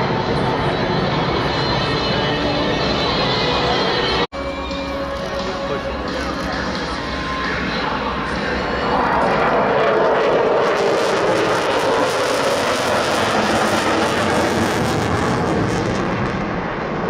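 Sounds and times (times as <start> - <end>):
fighter jet noise: 0.0 - 17.0.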